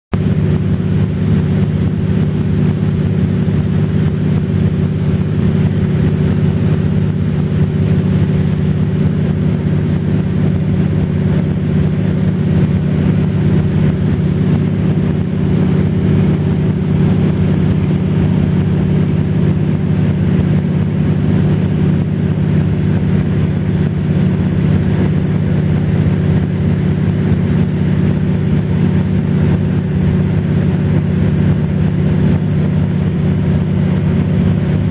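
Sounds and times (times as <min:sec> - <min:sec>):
aircraft engine droning in cabin: 0:00.2 - 0:34.9.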